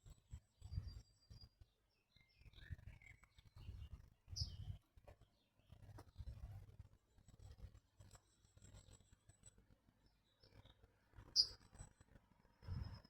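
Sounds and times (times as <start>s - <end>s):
faint small bird chirps: 0.0s - 6.6s, 7.6s - 13.0s.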